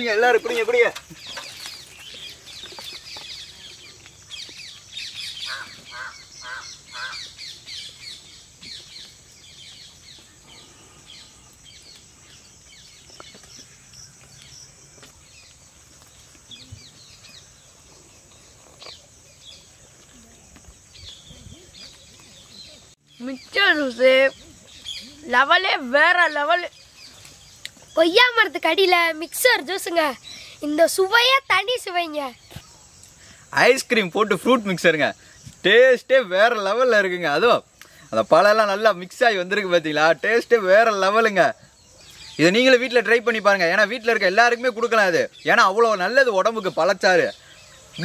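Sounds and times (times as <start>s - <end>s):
birds calling: 0.0s - 48.0s.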